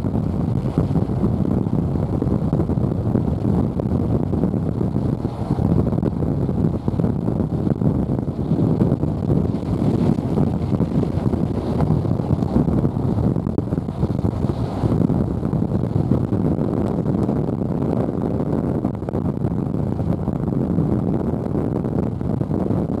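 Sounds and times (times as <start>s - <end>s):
air rushing through window: 0.0s - 23.0s
road noise inside moving car: 0.0s - 23.0s.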